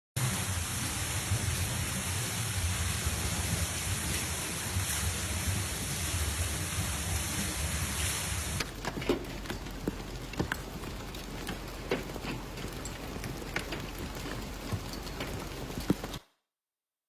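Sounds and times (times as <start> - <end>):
water rushing: 0.2 - 16.2.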